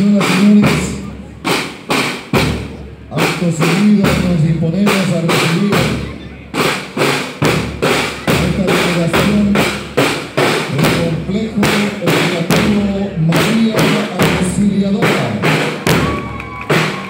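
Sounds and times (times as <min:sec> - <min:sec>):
snare and bass drums marching: 0:00.0 - 0:17.0.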